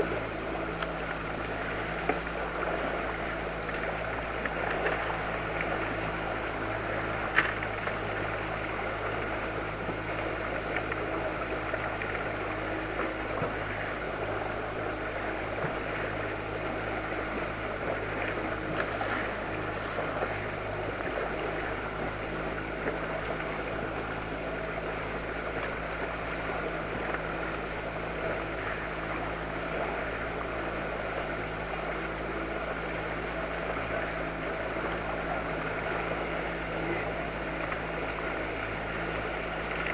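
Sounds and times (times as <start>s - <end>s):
outboard motor running: 0.0s - 39.9s
water rushing along hull: 0.0s - 39.9s.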